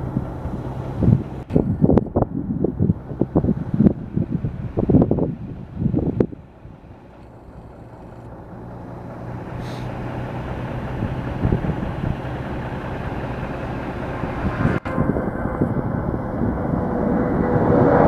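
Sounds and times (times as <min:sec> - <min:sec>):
jet engine whine: 0:00.0 - 0:18.0
jet engines at departure power: 0:00.0 - 0:18.0.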